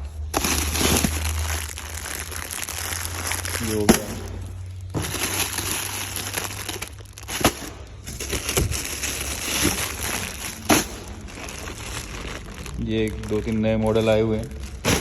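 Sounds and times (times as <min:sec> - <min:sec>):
packaging crinkling and rustling: 0:00.2 - 0:15.0.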